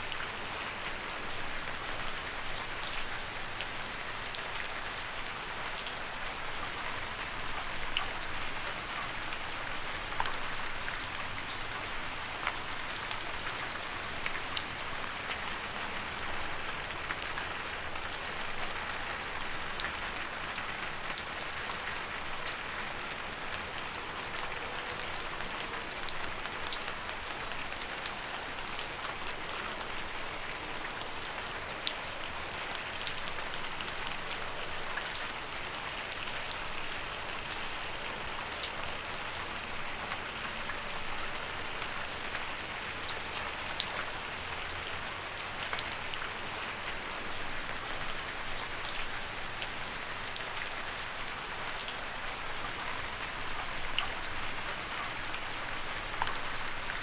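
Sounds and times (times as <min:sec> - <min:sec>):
rain hissing on a surface: 0:00.0 - 0:57.0
sharp ticks of raindrops: 0:00.0 - 0:57.0.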